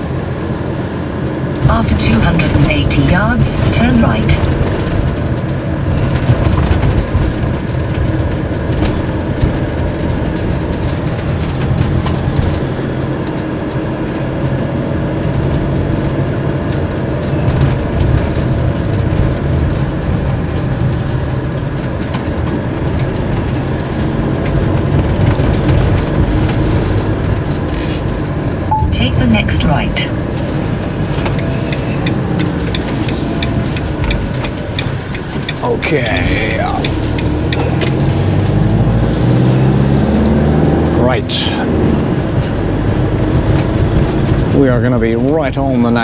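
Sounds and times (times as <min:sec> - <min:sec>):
engine and road rumble: 0:00.0 - 0:46.0.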